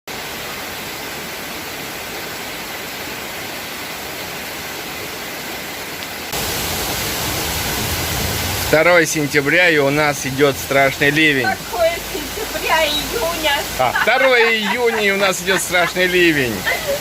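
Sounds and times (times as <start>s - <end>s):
heavy rain pouring: 0.1s - 17.0s.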